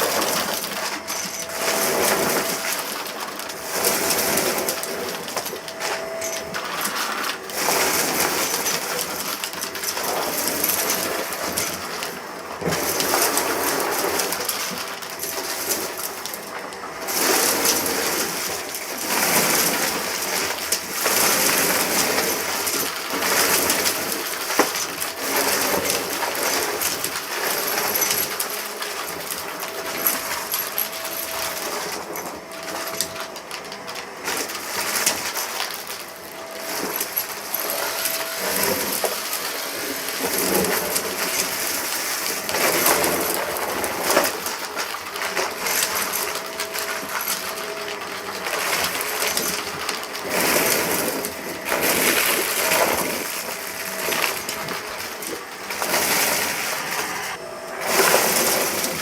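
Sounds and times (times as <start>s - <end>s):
debris rattling in vacuum: 0.0s - 59.0s
vacuum cleaner on rug: 0.0s - 59.0s.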